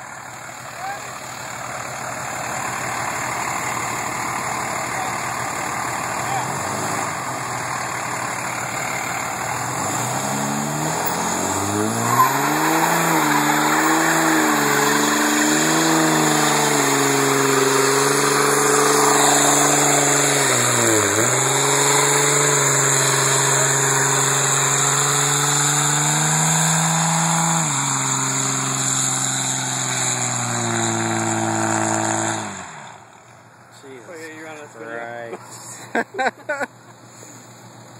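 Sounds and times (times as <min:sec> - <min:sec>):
diesel engine revving: 0:00.0 - 0:33.2
tyres spinning and squealing: 0:00.1 - 0:32.8.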